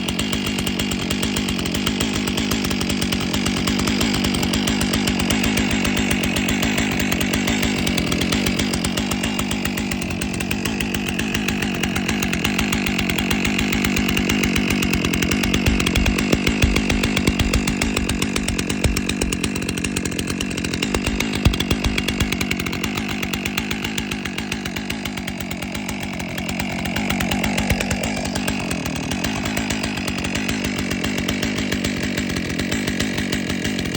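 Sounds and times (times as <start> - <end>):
chainsaw engine running: 0.0 - 33.9.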